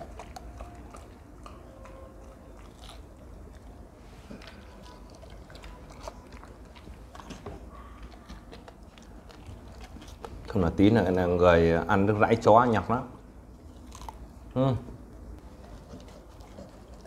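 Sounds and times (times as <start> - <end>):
person chewing fruit: 0.0 - 11.2, 13.6 - 14.6, 15.4 - 17.0.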